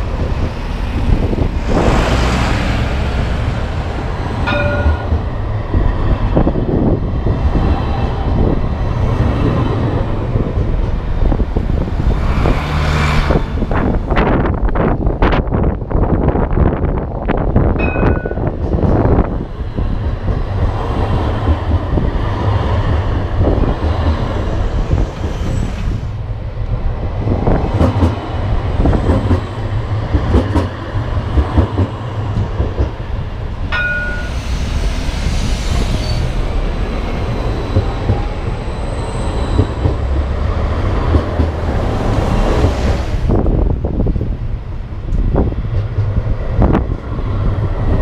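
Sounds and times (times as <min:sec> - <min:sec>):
tram rumbling past: 0:00.0 - 0:48.0.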